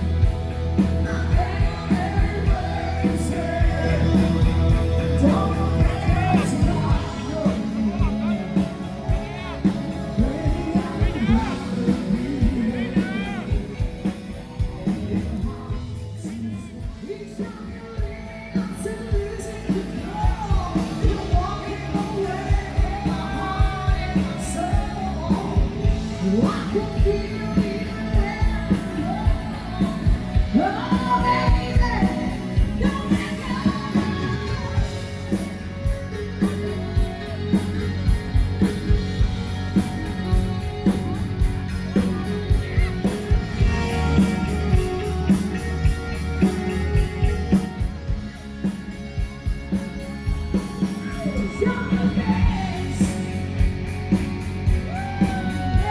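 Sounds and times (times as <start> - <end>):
live band music: 0.0 - 55.9
person singing: 0.8 - 37.8, 42.0 - 48.0, 50.5 - 53.8.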